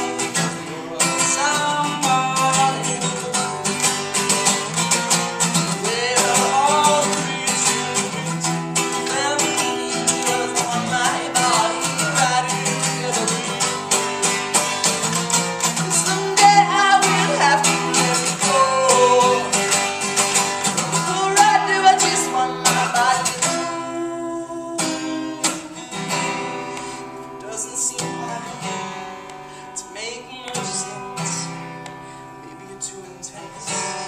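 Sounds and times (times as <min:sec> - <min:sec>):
man singing: 0:00.0 - 0:26.0, 0:27.4 - 0:29.0, 0:29.6 - 0:31.6, 0:32.4 - 0:34.0
strummed acoustic guitar: 0:00.0 - 0:34.0.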